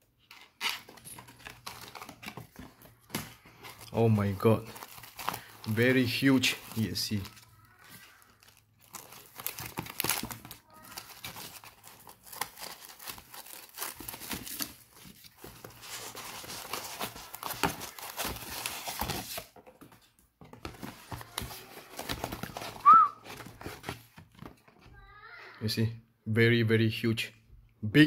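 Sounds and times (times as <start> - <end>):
cardboard and foam rustling: 0.3 - 25.2.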